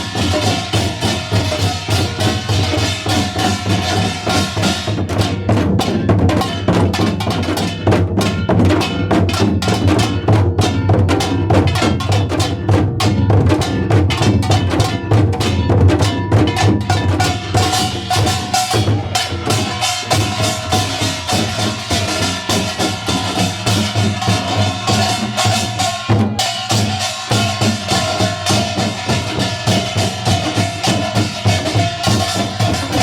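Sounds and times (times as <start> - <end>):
hourglass drums: 0.0 - 33.0.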